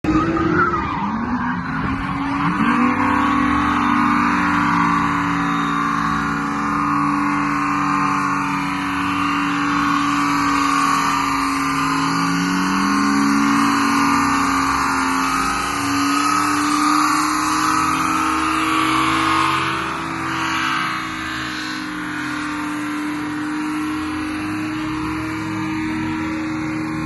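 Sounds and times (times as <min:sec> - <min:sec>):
car engine running at high revs: 0:00.0 - 0:27.0.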